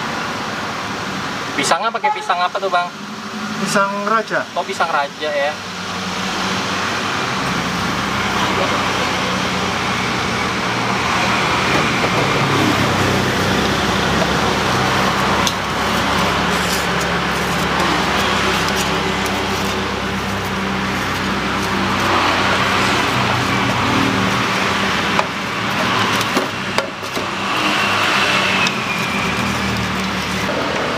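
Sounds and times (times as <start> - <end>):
road traffic passing: 0.0 - 30.9
vehicle engines humming: 0.0 - 30.9.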